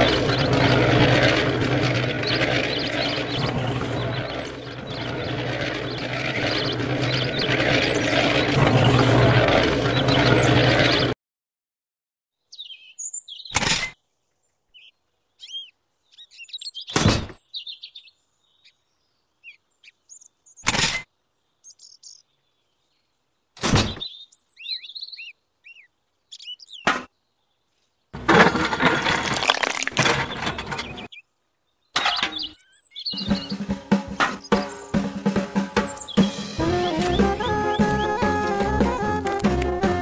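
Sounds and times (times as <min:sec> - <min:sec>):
small birds chirping: 0:00.0 - 0:11.2, 0:12.4 - 0:28.1, 0:30.1 - 0:40.0.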